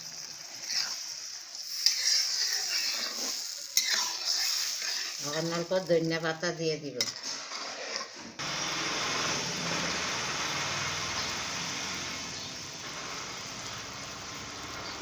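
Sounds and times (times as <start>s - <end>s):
curry boiling: 0.0s - 15.0s.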